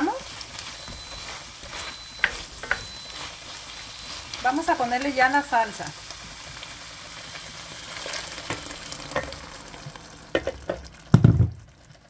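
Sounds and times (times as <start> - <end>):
meat sizzling in a hot pan: 0.0 - 11.4.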